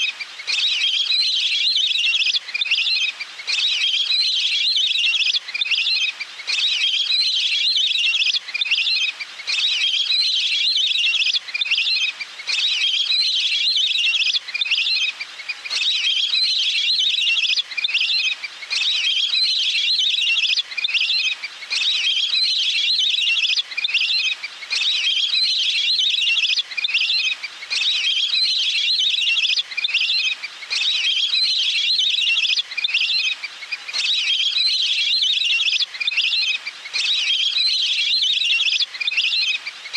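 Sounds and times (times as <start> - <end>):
recorded water bird call: 0.0 - 39.9.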